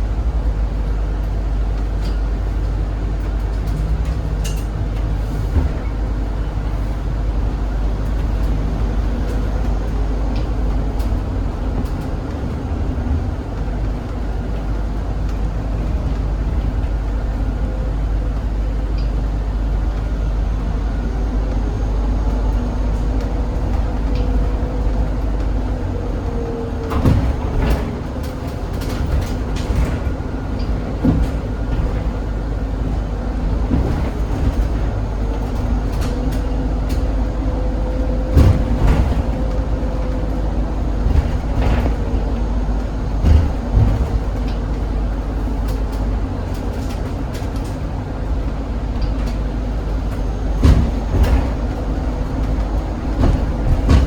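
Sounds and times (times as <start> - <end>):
bus cabin rumble: 0.0 - 54.0.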